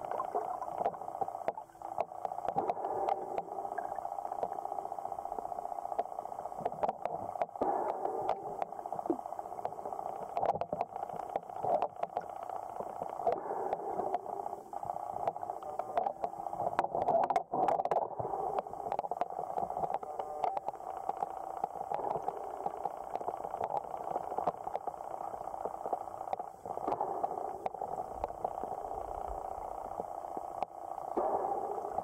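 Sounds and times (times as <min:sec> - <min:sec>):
muffled underwater water noise: 0:00.0 - 0:32.0
small scattered underwater clicks: 0:00.0 - 0:32.0.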